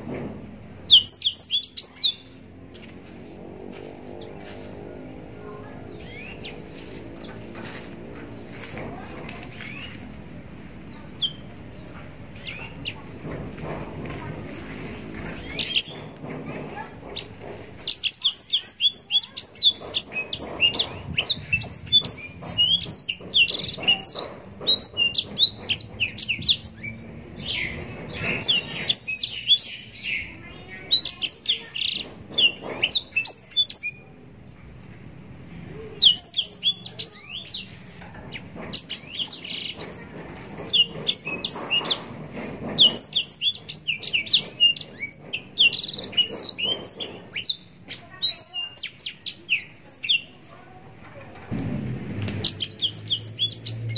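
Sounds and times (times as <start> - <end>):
canary singing twittering phrases: 0.6 - 2.7, 3.4 - 34.2, 35.8 - 50.8, 52.3 - 53.9.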